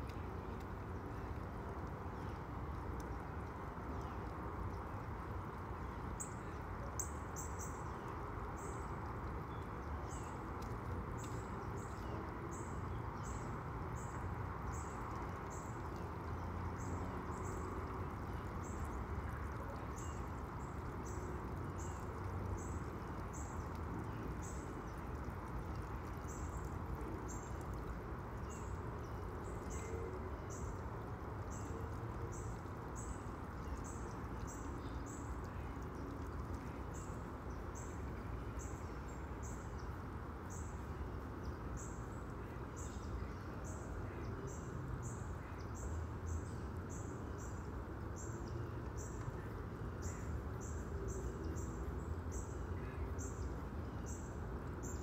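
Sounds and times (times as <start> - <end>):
low outdoor background hum: 0.0 - 55.0.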